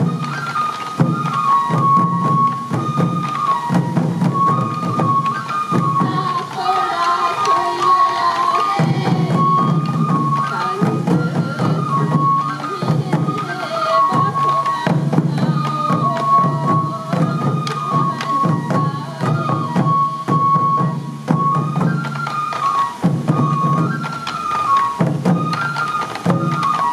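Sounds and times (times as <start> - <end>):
bamboo flute melody: 0.0 - 26.9
taiko drums beating: 0.0 - 26.9.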